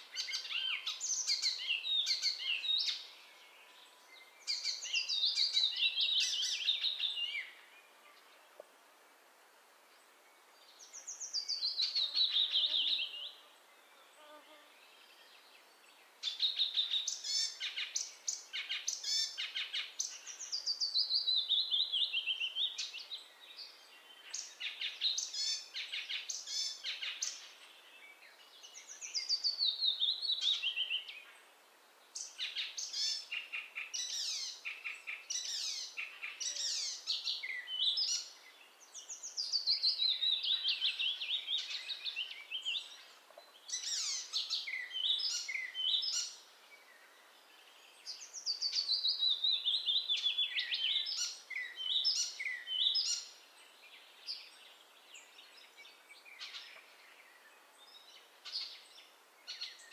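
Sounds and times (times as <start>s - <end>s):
warbler singing: 0.0s - 8.4s, 10.3s - 14.0s, 14.9s - 31.4s, 32.2s - 59.9s.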